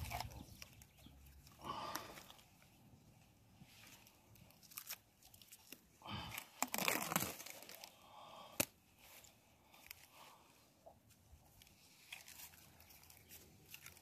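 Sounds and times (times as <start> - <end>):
plastic tape crinkling and tearing: 0.0 - 2.6, 3.8 - 10.2, 11.4 - 14.0.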